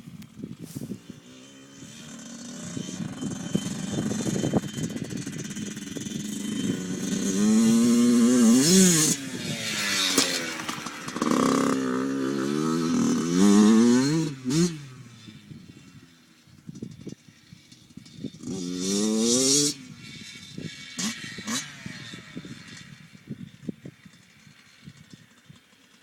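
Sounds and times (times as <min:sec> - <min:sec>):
dirt bike engine revving: 0:00.6 - 0:26.0.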